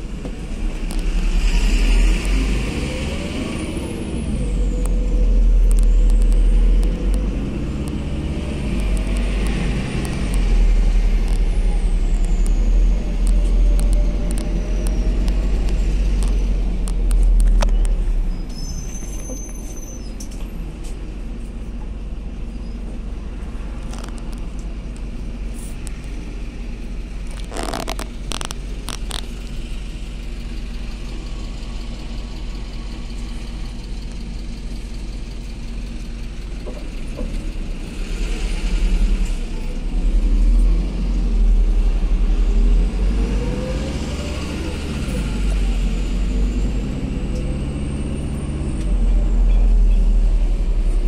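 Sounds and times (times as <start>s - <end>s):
bus engine rumbling: 0.0s - 51.0s.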